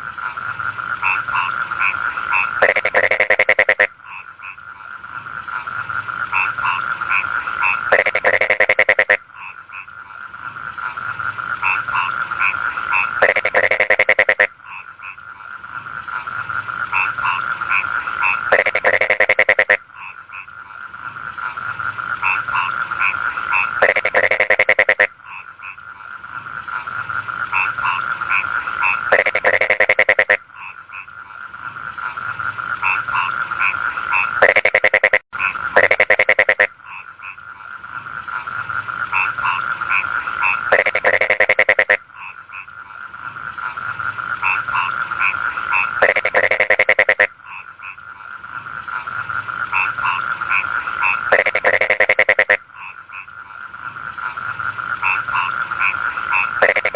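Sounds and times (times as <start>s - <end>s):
frogs croaking in chorus: 0.0s - 56.9s
frog rattling call: 0.2s - 4.9s, 5.5s - 10.0s, 10.8s - 15.5s, 16.1s - 20.6s, 21.3s - 26.1s, 26.7s - 37.7s, 38.3s - 56.9s.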